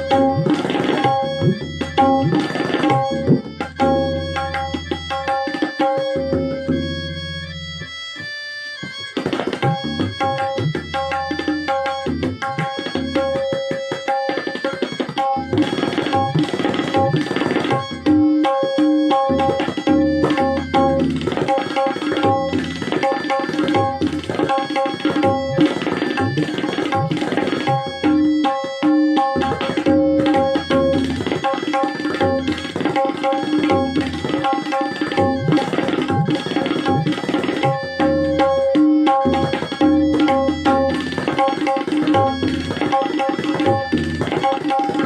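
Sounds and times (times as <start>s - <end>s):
tabla drumming: 0.0s - 45.0s.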